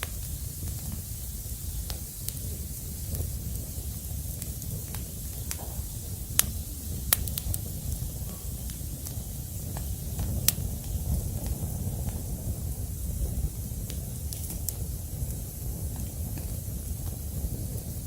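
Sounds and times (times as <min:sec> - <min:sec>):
fire crackling pops: 0:00.0 - 0:18.0
wood fire rumble and hiss: 0:00.0 - 0:18.0.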